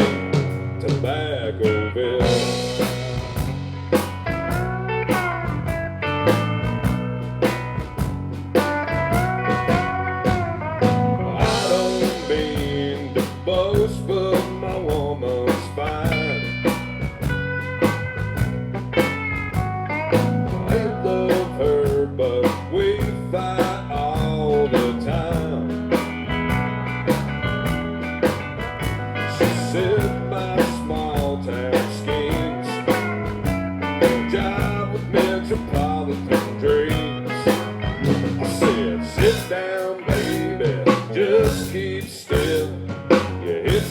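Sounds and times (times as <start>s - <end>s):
live country band playing: 0.0s - 43.9s.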